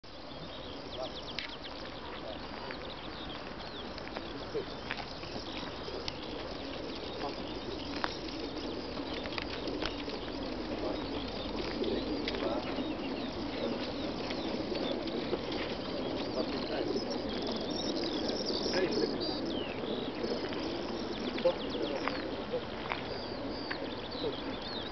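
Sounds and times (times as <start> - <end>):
pigeons cooing: 0.1 - 24.9
wings flapping: 2.4 - 23.1.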